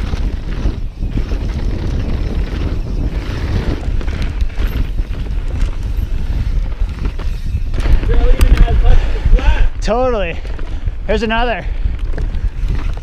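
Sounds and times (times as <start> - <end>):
bike rattling over bumps: 0.0 - 13.0
tyres rolling on dirt trail: 0.0 - 13.0
wind buffeting microphone: 0.0 - 13.0.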